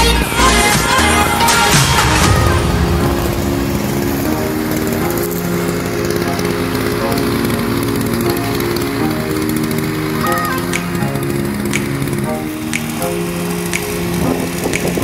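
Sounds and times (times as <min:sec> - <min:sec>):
music: 0:00.0 - 0:15.0
scooter engine idling: 0:00.0 - 0:15.0.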